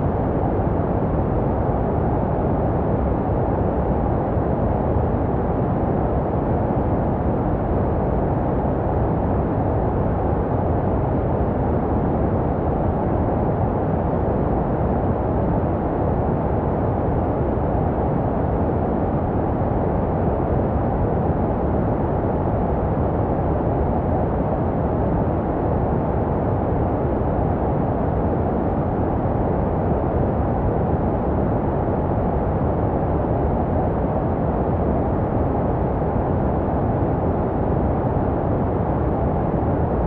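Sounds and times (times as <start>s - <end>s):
muffled rushing white noise: 0.0s - 40.0s.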